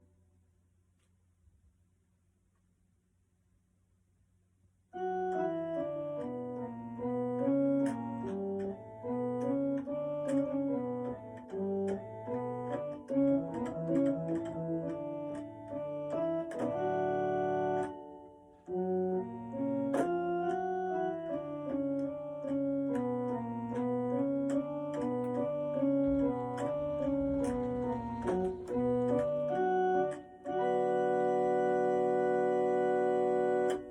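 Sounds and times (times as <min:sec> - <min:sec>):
electronic keyboard melody: 0:05.0 - 0:33.9.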